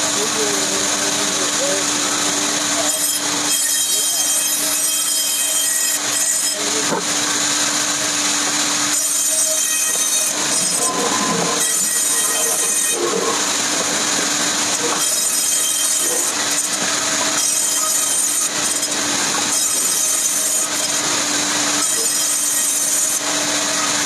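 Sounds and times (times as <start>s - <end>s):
saw cutting through wood: 0.0s - 24.0s.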